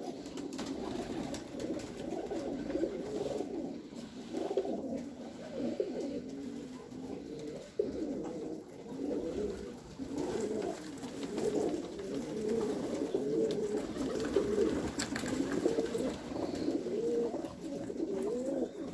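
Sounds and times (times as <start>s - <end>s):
pigeons cooing: 0.0s - 18.9s.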